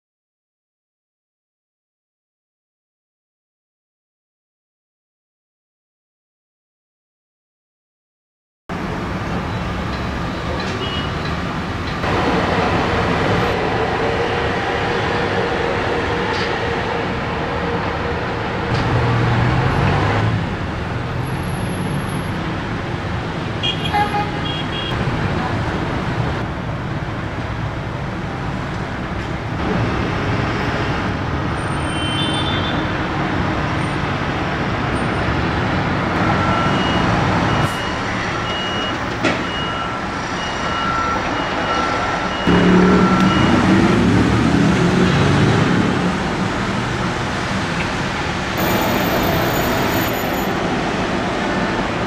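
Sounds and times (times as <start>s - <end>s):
heavy diesel machinery: 8.7s - 52.0s
road traffic: 8.7s - 52.0s.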